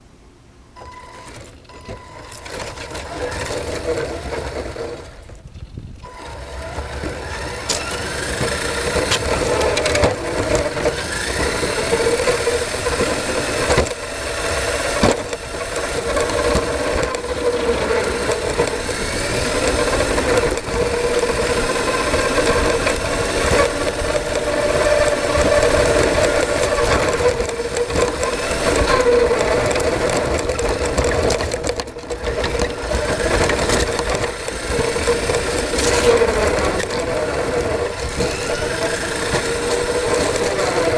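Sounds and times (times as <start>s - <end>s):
model motor whining: 0.8s - 5.4s, 6.0s - 40.9s
rattling: 1.2s - 40.9s.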